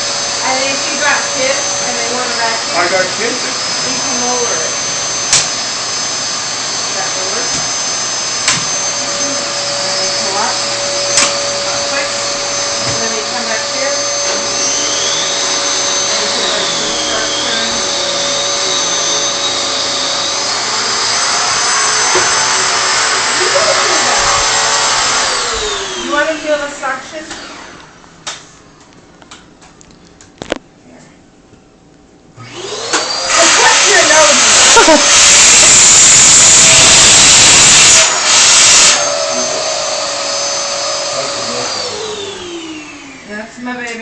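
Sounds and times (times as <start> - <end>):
motor whine winding down: 0.0 - 28.0, 32.4 - 43.9
vacuum cleaner running: 0.0 - 28.8, 32.3 - 44.0.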